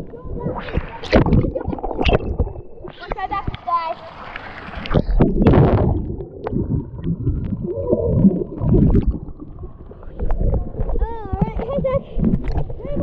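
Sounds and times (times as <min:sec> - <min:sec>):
muffled underwater bubbling: 0:00.0 - 0:03.7, 0:04.8 - 0:13.0
pool water splashing: 0:00.0 - 0:13.0.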